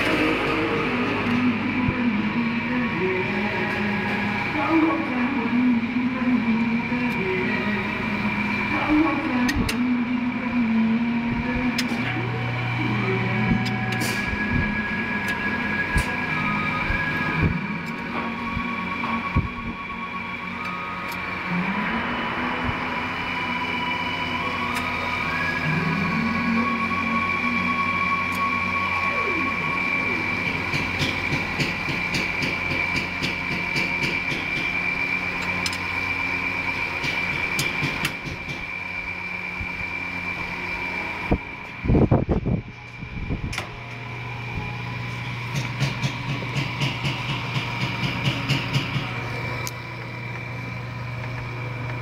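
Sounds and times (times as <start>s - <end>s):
engine running with rhythmic ticking: 6.2s - 52.0s.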